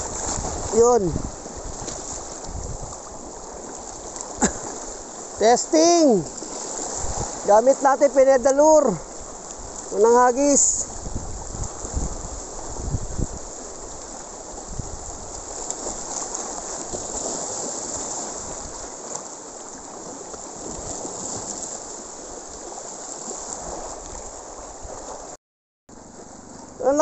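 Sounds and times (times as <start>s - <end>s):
surf washing over rocks: 0.0s - 25.4s, 26.0s - 27.0s.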